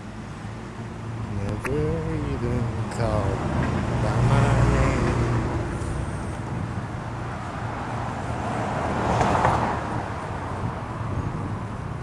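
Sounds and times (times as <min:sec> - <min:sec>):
street traffic: 0:00.0 - 0:12.0
vehicle passing: 0:00.0 - 0:12.0.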